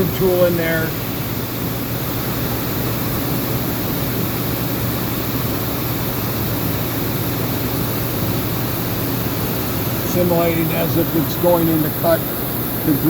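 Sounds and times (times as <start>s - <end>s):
constant low hum: 0.0s - 13.0s
machine whirring hiss: 0.0s - 13.0s.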